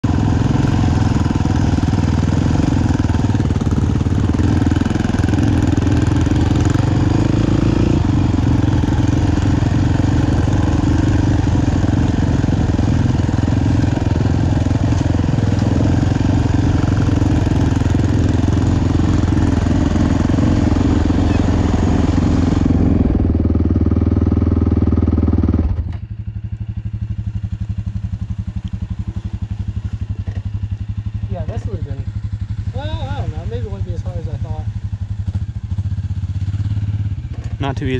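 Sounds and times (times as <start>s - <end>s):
dirt bike engine: 0.0s - 37.9s.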